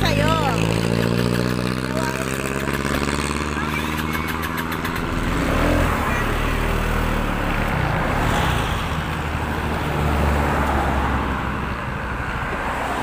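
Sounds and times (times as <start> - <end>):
road noise: 0.0 - 13.0
traffic: 0.0 - 13.0
vehicle engine rumble: 0.0 - 13.0.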